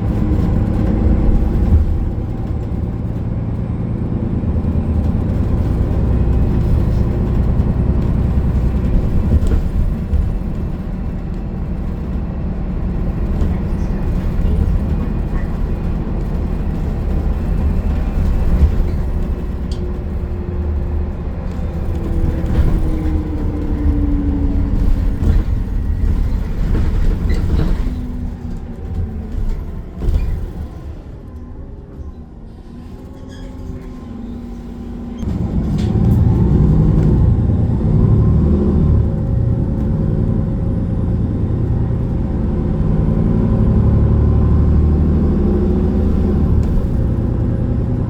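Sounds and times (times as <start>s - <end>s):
bus engine and road noise: 0.0s - 48.0s
whining transmission: 0.0s - 48.0s.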